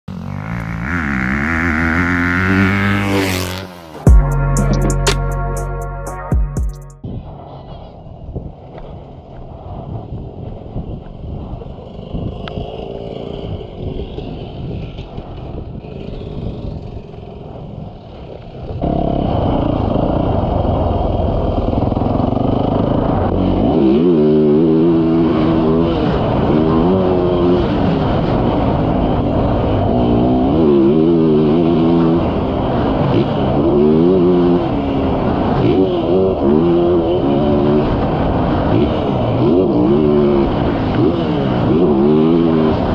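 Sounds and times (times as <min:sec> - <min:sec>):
motorcycle engine revving: 0:00.1 - 0:05.7, 0:10.2 - 0:42.9.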